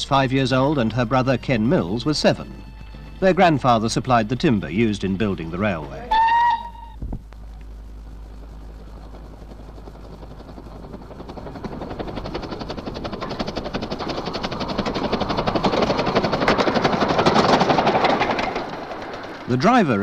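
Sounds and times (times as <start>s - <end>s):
steam locomotive chuffing: 0.0s - 7.0s, 7.8s - 20.0s.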